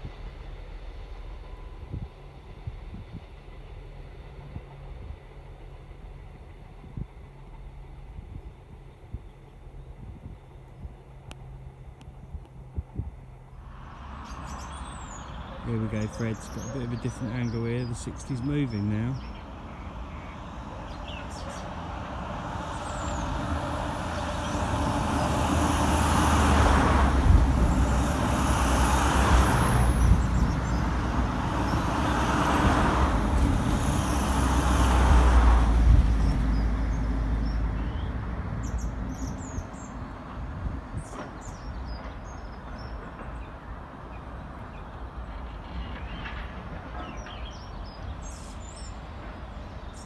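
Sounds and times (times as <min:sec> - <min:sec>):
diesel locomotive engine rumble: 0:00.0 - 0:50.0.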